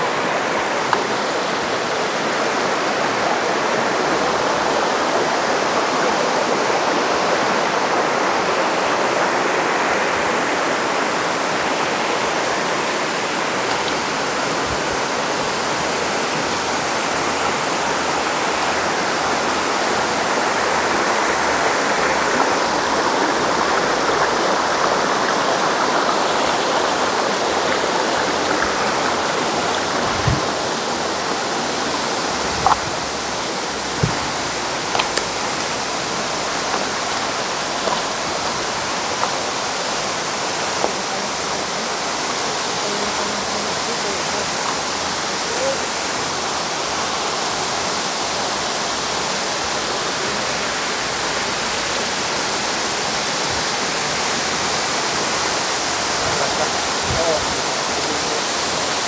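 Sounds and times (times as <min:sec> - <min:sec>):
river water rushing: 0:00.0 - 0:59.0
waterfall: 0:00.0 - 0:59.0.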